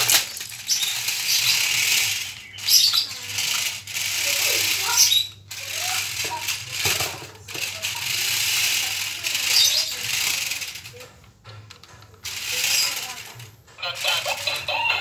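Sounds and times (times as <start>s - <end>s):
toy car motors whirring and rattling: 0.0s - 15.0s.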